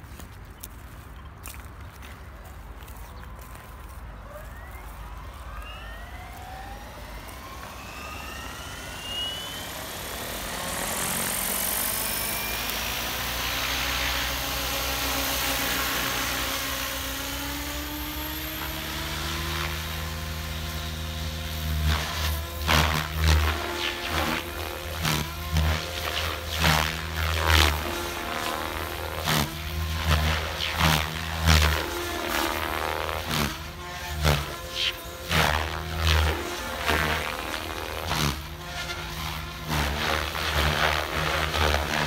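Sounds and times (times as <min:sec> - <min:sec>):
electric motor and gear whine: 0:00.0 - 0:42.0
low rotor hum: 0:00.0 - 0:42.0.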